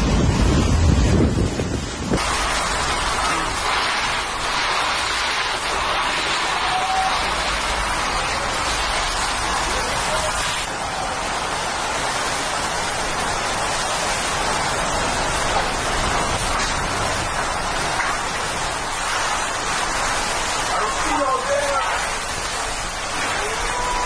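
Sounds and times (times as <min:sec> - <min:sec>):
driving rain: 0:00.0 - 0:24.0
strong wind: 0:00.0 - 0:24.0.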